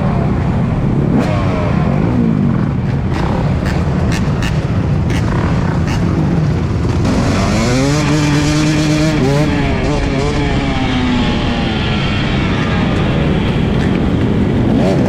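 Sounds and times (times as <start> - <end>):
dirt bike engine revving: 0.0 - 15.0
road and wind noise: 0.0 - 15.0.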